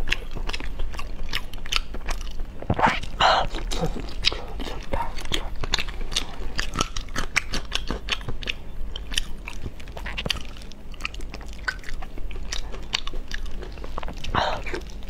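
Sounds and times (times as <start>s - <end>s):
chewing and mouth smacks: 0.0s - 15.0s.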